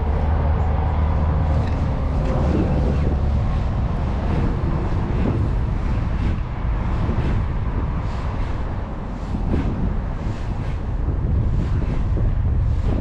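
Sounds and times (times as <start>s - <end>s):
choppy sea water: 0.0s - 13.0s
wind buffeting the microphone: 0.0s - 13.0s.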